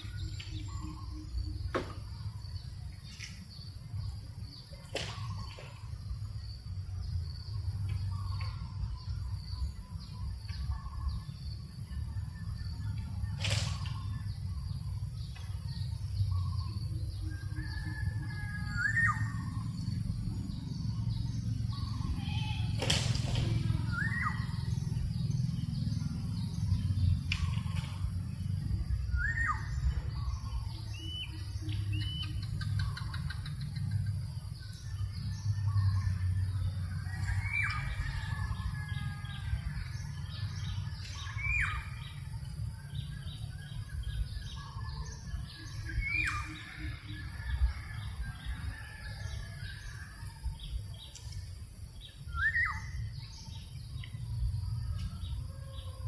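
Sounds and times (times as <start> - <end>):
birds twittering: 0.0 - 56.0.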